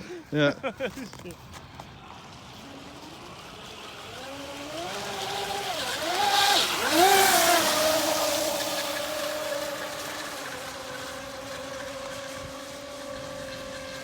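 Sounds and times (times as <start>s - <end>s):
electric motor whining: 1.1s - 14.0s.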